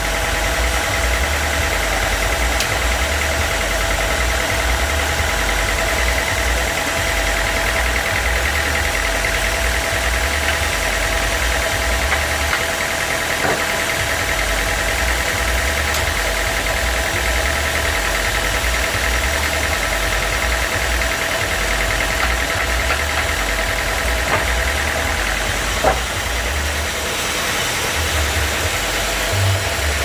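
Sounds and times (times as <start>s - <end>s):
sawmill machinery humming: 0.0s - 30.0s.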